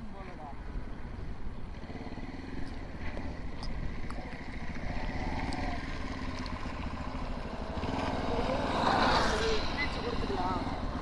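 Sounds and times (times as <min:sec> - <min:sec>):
motorcycle engine running: 0:00.9 - 0:11.0.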